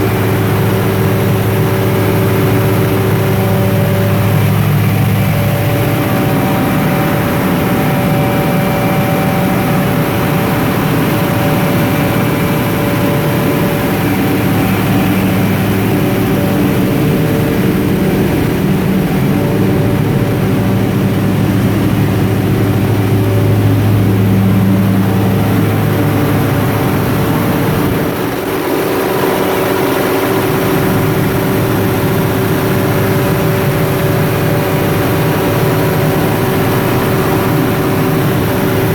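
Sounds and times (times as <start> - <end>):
diesel generator engine running: 0.0 - 38.9.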